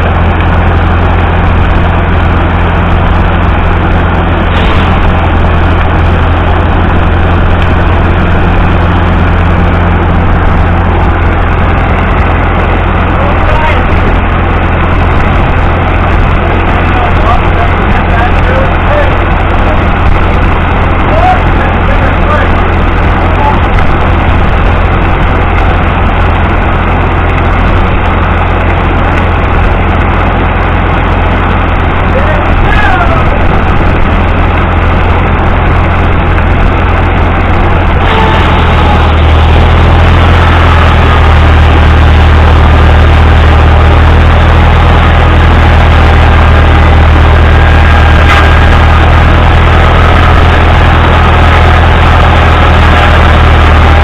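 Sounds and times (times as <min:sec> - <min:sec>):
heavy engine running: 0:00.0 - 0:54.0.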